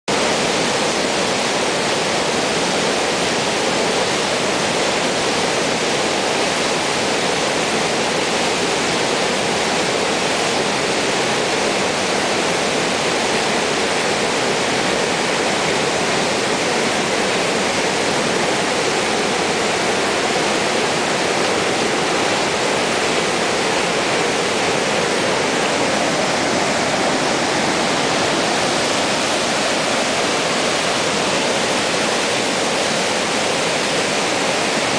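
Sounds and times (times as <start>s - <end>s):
floodwater rushing through rapids: 0.1s - 34.9s.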